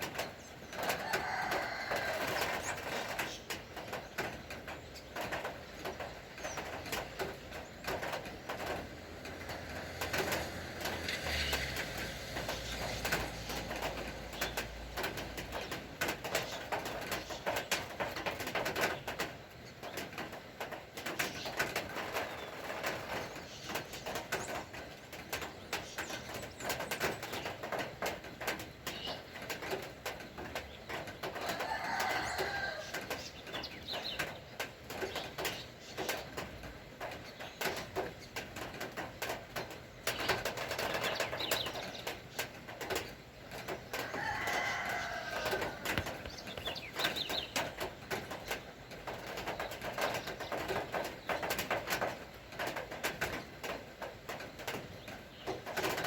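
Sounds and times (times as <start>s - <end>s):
birds calling: 0.0s - 56.0s
raindrops ticking on surfaces: 0.0s - 56.0s.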